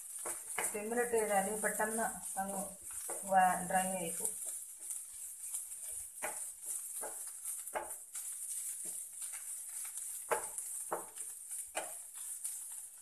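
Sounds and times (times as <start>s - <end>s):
spatula scraping frying pan: 0.0s - 13.0s.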